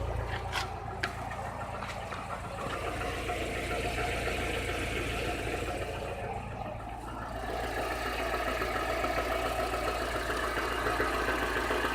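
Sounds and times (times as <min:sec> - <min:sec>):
car engine running with knock: 0:00.0 - 0:11.9.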